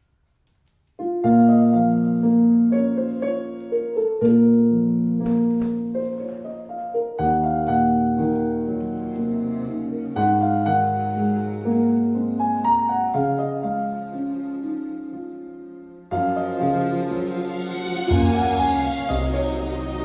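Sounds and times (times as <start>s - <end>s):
piano ballad through speakers: 0.0s - 20.0s.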